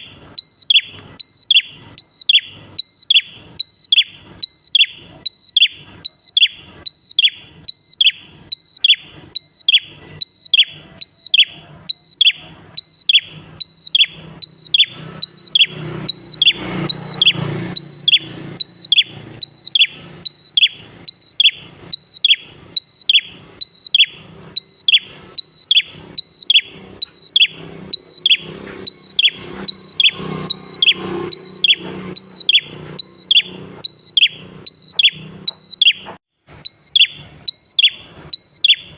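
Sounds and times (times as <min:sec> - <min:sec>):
bird singing sharp whistled notes: 0:00.0 - 0:38.9.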